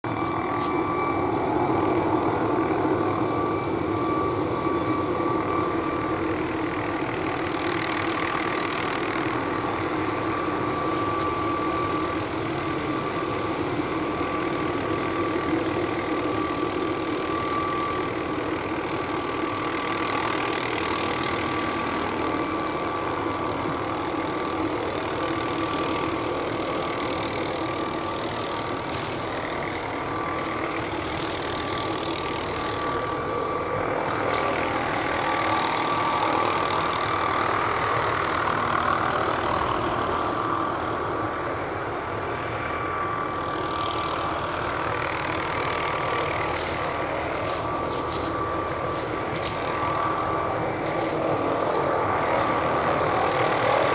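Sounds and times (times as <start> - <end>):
helicopter main rotor rush: 0.0 - 53.9
helicopter turbine whine: 0.0 - 53.9.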